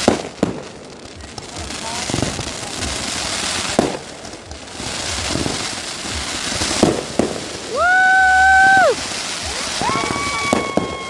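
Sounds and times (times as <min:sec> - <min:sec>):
firework bangs: 0:00.0 - 0:11.0
hiss of bursting firework shells: 0:00.0 - 0:11.0.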